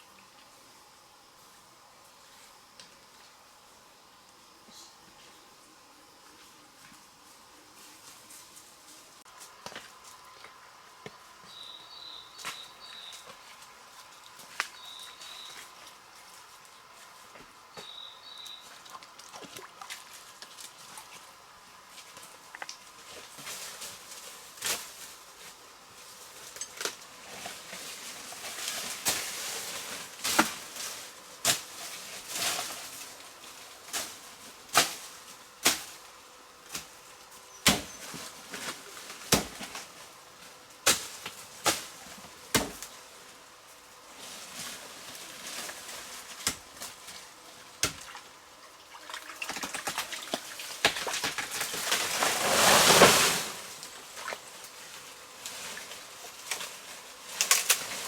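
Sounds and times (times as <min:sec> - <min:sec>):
faint hiss: 0:00.0 - 0:48.8, 0:50.1 - 0:58.0.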